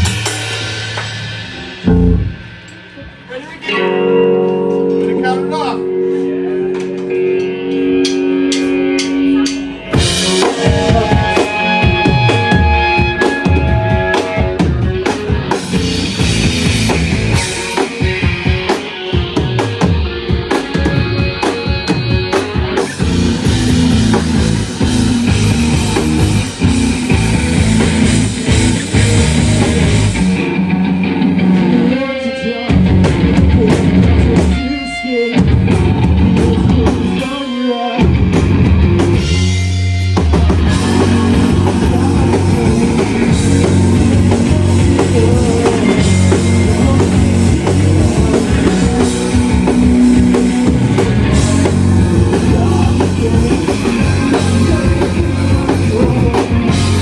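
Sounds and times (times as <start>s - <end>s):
bass: 0.0s - 57.0s
distorted electric guitars: 0.0s - 57.0s
drum kit: 0.0s - 57.0s.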